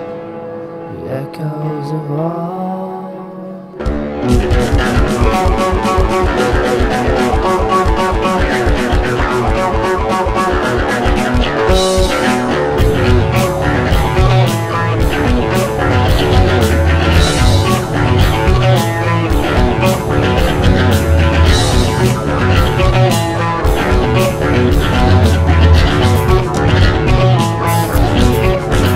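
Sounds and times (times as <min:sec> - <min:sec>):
rock music with guitar: 0:00.0 - 0:28.9.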